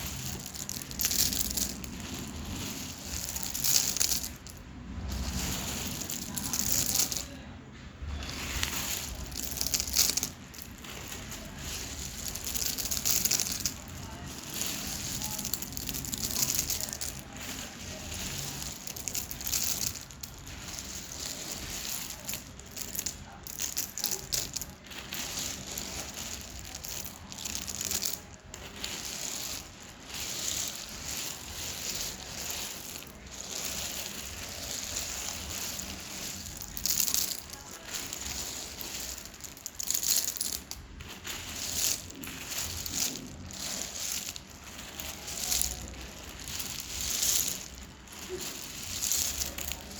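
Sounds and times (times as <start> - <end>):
clay crunching and crumbling: 0.0 - 49.9.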